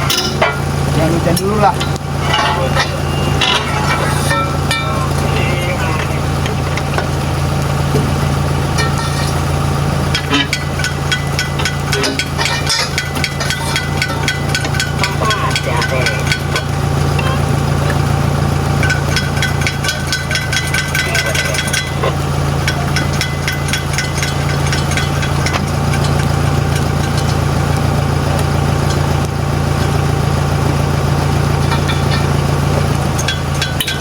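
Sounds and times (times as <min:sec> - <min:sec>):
diesel truck engine idling: 0:00.0 - 0:34.0.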